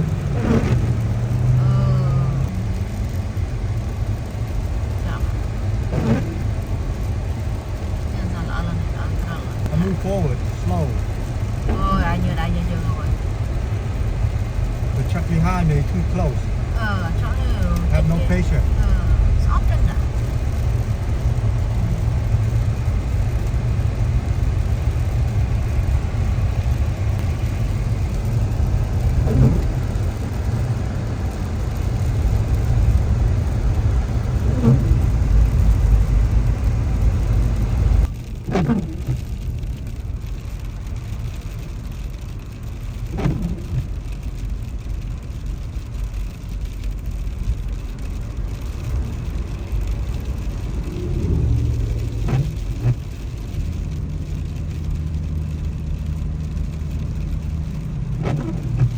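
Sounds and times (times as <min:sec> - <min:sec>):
car road noise rumble: 0:00.0 - 0:58.9.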